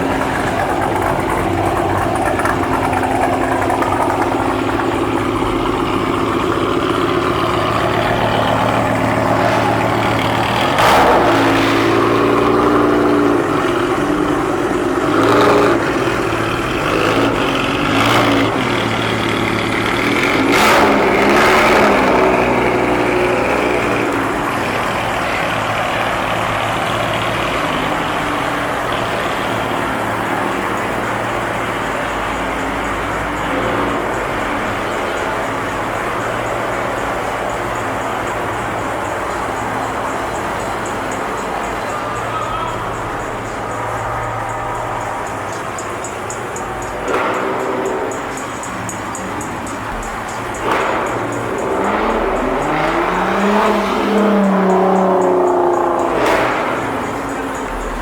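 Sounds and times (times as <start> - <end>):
car engines idling: 0.0 - 58.0
engine revving: 0.0 - 58.0.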